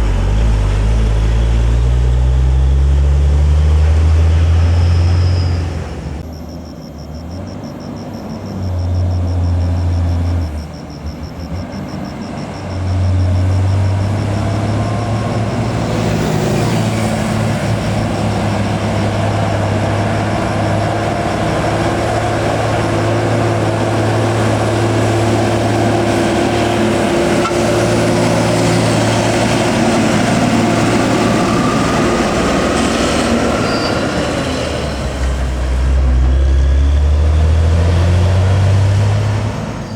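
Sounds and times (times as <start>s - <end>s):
diesel truck engines labouring: 0.0s - 39.9s.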